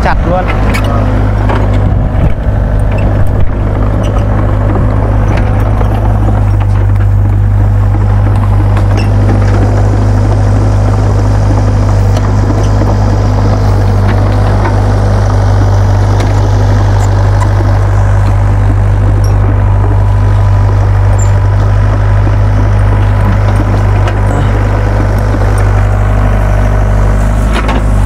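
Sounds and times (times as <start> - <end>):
excavator diesel engine droning: 0.0 - 28.0.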